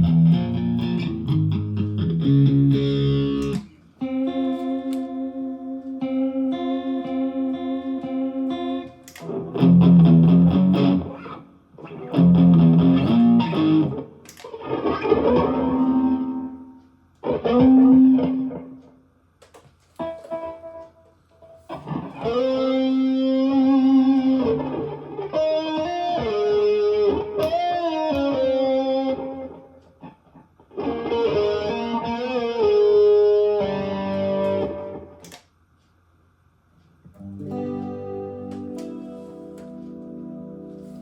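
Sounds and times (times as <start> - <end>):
electric guitar lead notes: 0.0 - 19.0, 20.0 - 29.8, 30.7 - 35.4, 37.1 - 41.0.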